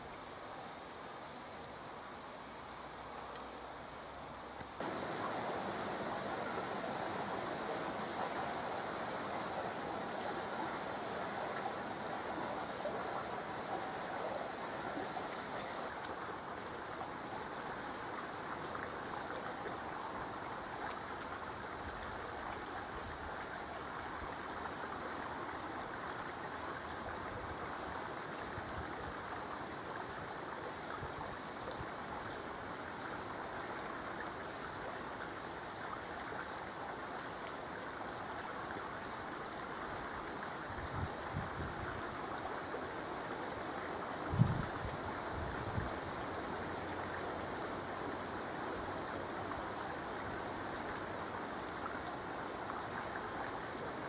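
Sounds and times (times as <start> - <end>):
brook flowing: 0.0 - 54.0.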